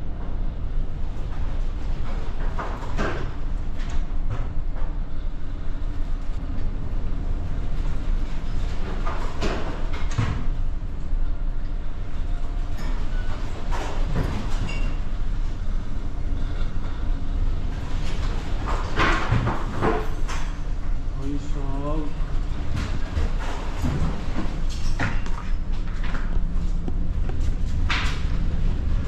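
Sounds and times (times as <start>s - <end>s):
ship low rumble: 0.0s - 29.0s.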